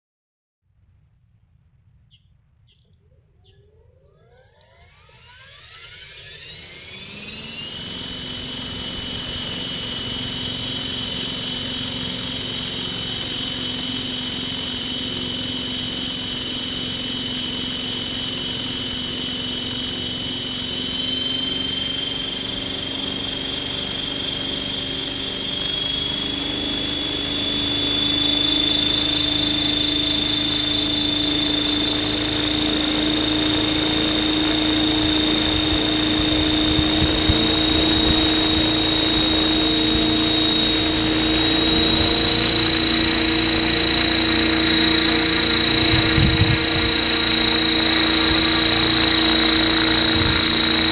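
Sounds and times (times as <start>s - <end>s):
model helicopter motor whine: 3.0s - 50.9s
helicopter rotor noise: 3.2s - 50.9s.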